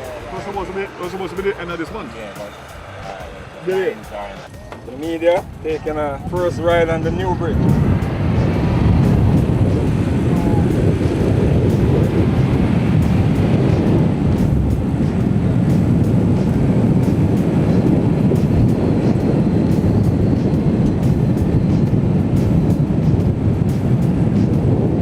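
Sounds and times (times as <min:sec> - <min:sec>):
vehicle road noise: 0:00.0 - 0:25.0
wind: 0:00.0 - 0:25.0.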